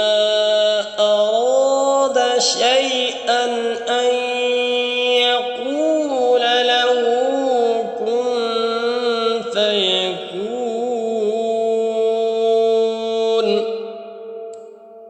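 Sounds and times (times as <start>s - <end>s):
man reciting melodically: 0.0s - 14.5s.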